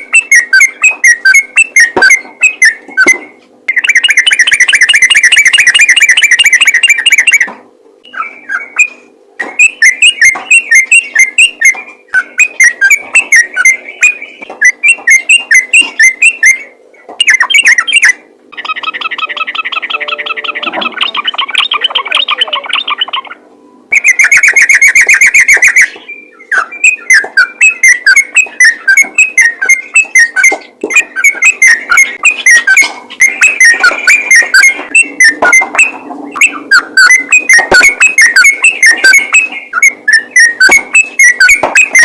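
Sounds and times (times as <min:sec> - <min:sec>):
bird singing bubbly chirps: 0:00.0 - 0:42.0
faint steady hum: 0:00.0 - 0:42.0.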